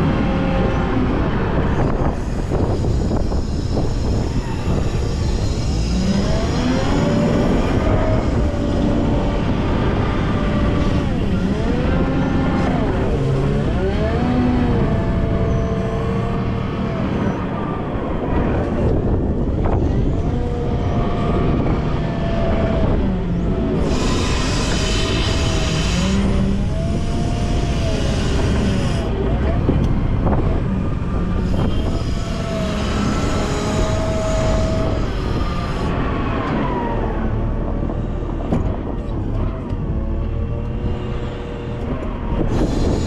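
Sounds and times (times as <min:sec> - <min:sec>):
wheel loader diesel engine revving: 0:00.0 - 0:43.0.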